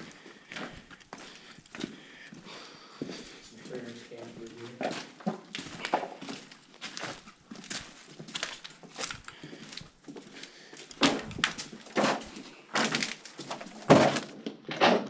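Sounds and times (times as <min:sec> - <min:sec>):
footsteps crunching on rubble: 0:00.0 - 0:15.0.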